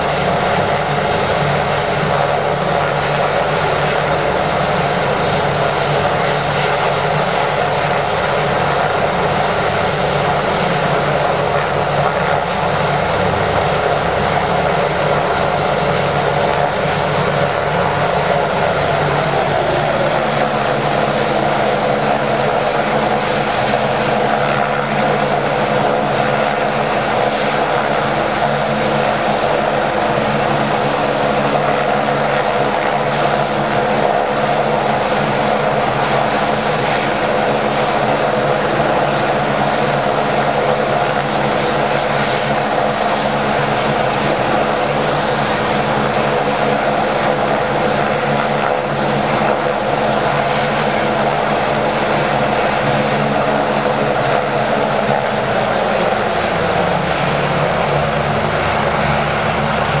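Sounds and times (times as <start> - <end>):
helicopter turbine whine: 0.0 - 60.0.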